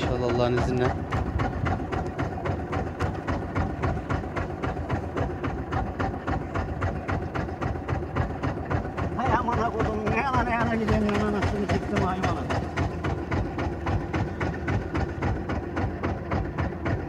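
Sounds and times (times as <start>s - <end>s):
diesel boat engine idling: 0.0s - 17.0s.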